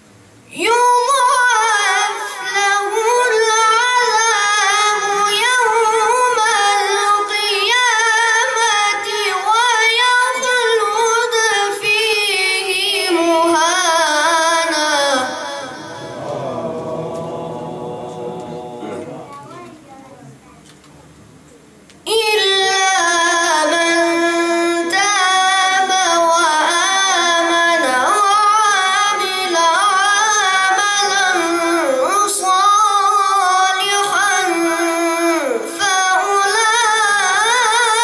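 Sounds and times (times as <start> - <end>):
boy reciting melodically: 0.5 - 20.8, 22.0 - 38.0.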